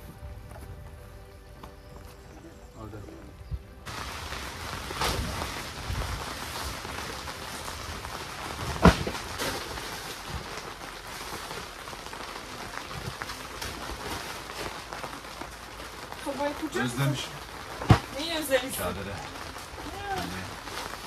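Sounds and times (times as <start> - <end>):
rain on a tent: 0.0 - 21.0.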